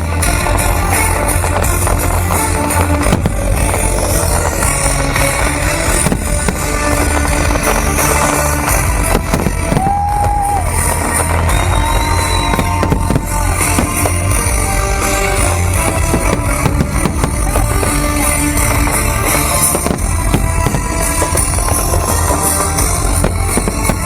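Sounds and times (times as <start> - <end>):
fireworks bangs: 0.0 - 24.0
loud music: 0.0 - 24.0.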